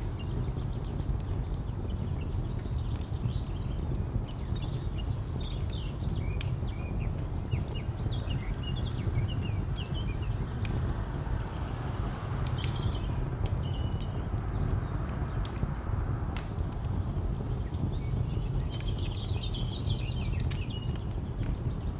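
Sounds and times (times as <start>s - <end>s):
distant traffic rumble: 0.0s - 21.9s
small birds chirping: 0.0s - 21.9s
wood fire crackling and popping: 0.0s - 21.9s.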